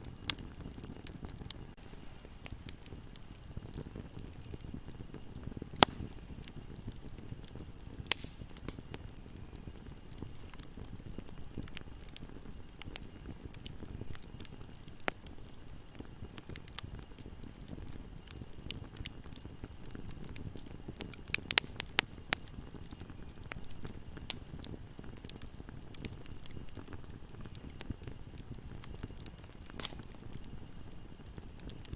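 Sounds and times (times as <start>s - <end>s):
campfire flames rumbling: 0.0s - 31.9s
fire crackling and popping: 0.0s - 31.9s.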